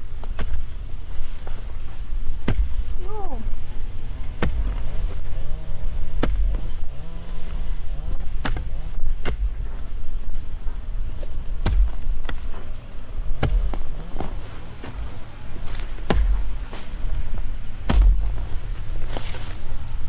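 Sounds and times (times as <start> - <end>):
hoe chopping into soil: 0.1 - 3.2, 4.2 - 19.8.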